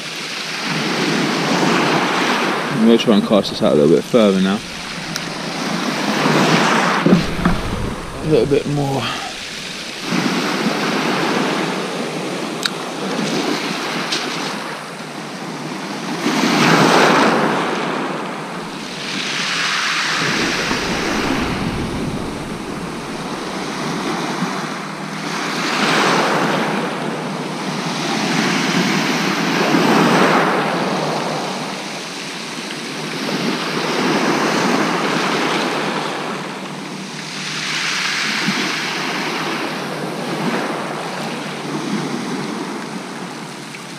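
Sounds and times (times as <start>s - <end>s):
waves washing over shingle: 0.0s - 43.9s.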